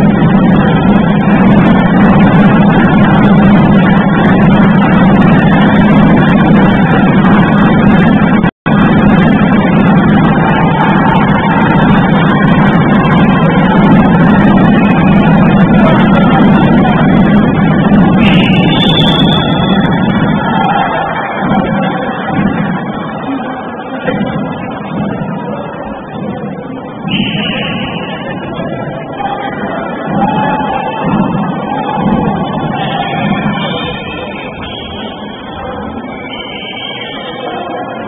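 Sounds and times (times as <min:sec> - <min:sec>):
rumbling din in sports hall: 0:00.0 - 0:38.0.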